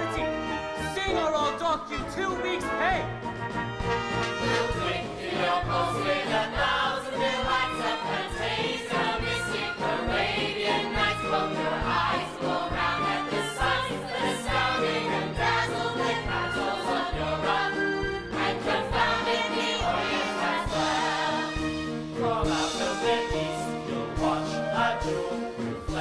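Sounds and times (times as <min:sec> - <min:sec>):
band playing steady beat: 0:02.0 - 0:26.0.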